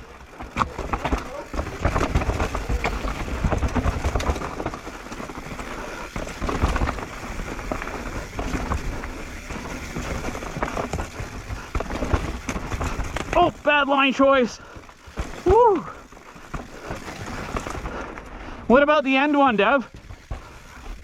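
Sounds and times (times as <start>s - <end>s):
bike rattling over rocks: 0.0s - 21.0s
tyres crunching on dirt: 0.0s - 21.0s.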